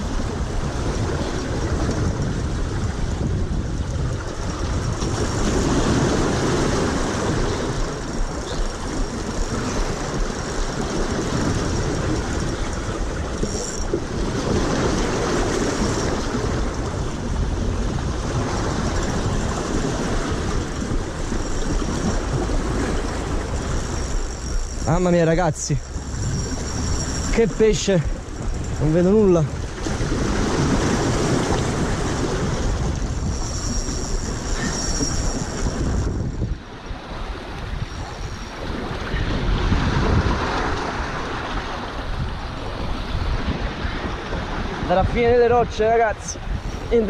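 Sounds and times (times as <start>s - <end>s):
sea surf against rocks: 0.0s - 47.0s
wind buffeting microphone: 0.0s - 47.0s.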